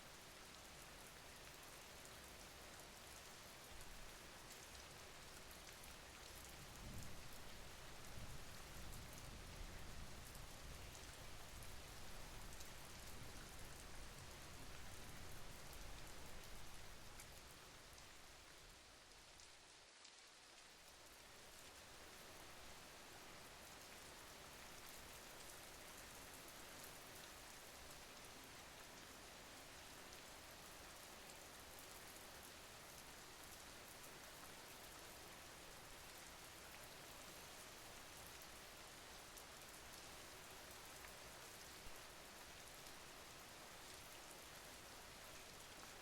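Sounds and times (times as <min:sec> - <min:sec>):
faint rain: 0:00.0 - 0:46.0.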